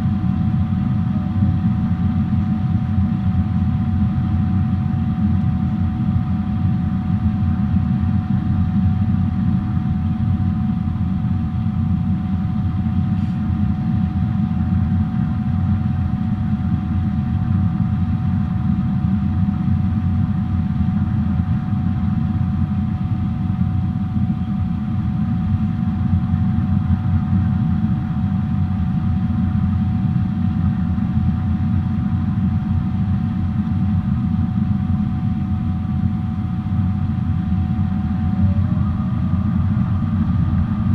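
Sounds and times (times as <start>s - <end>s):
constant whine: 0.0s - 40.9s
engine and airflow rumble: 0.0s - 40.9s.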